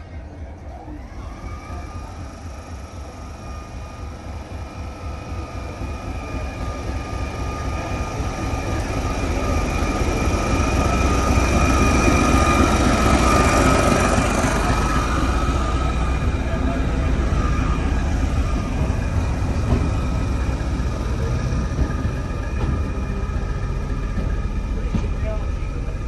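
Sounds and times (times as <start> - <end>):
locomotive diesel engine rumble: 0.0 - 26.0
steady high whine: 0.0 - 26.0.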